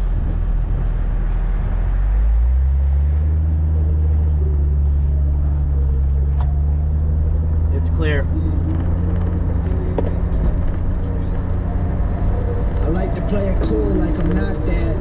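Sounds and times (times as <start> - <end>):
low engine drone: 0.0 - 15.0
road rumble: 0.0 - 15.0.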